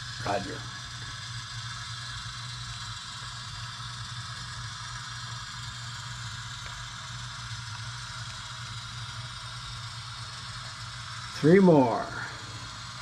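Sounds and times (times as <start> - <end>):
model locomotive humming: 0.0 - 13.0.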